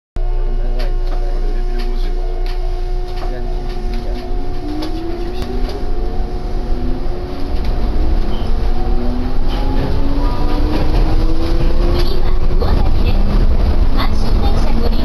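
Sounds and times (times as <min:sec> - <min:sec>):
train running rumble: 0:00.2 - 0:15.0.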